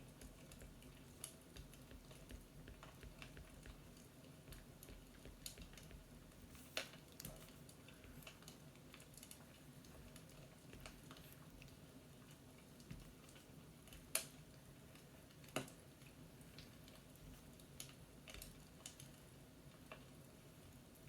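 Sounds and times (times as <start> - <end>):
fireplace crackle: 0.0 - 21.0.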